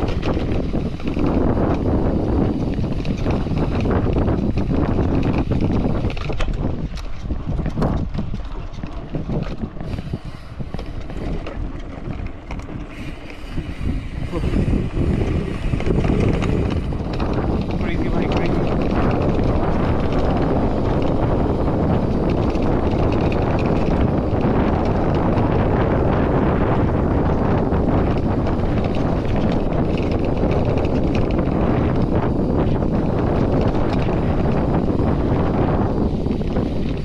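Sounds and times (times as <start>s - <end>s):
bike rattling: 0.0s - 37.0s
wind rushing over microphone: 0.0s - 37.0s.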